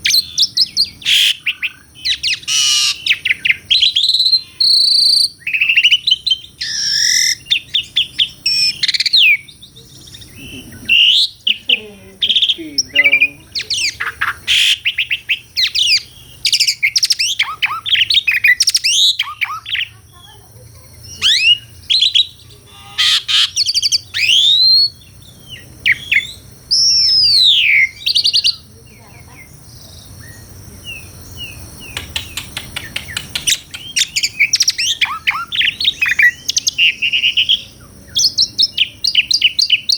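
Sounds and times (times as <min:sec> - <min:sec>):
starling singing varied song: 0:00.0 - 0:39.9.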